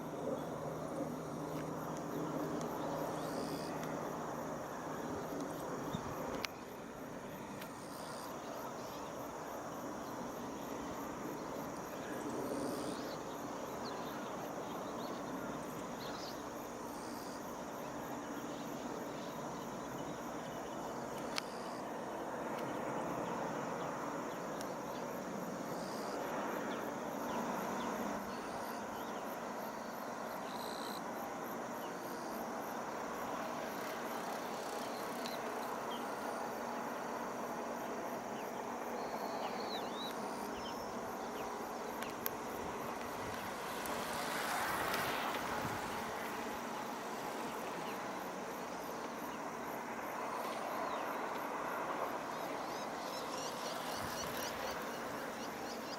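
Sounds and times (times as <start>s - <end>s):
crickets chirring: 0.0s - 55.9s.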